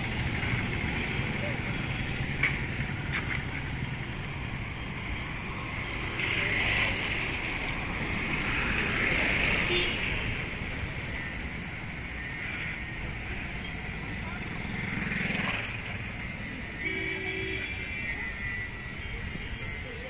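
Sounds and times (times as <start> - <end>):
vehicles passing by: 0.0 - 20.0.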